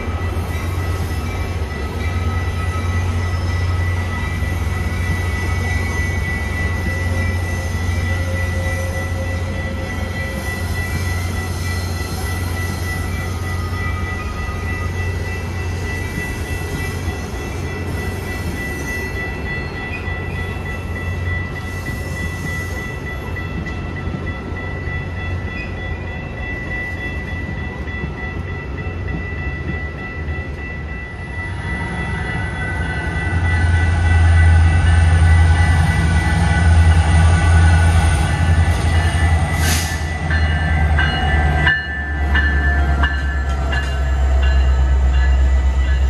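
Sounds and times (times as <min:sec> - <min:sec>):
train high whine: 0:00.0 - 0:46.0
train low hum: 0:00.0 - 0:46.0.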